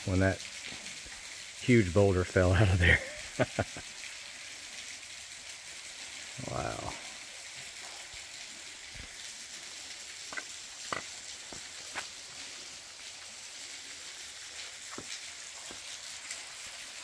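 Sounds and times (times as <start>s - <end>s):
trickling waterfall splashing: 0.0s - 17.0s.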